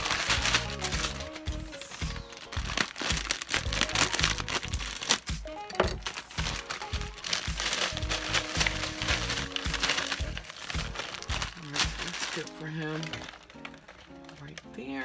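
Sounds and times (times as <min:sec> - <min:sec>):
background music with steady beat: 0:00.0 - 0:15.0
plastic bag crinkling: 0:00.0 - 0:15.0.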